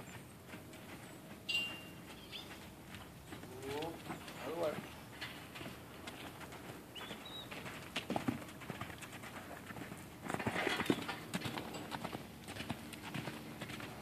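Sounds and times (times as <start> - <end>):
horse hoofbeats on sand: 0.0 - 14.0.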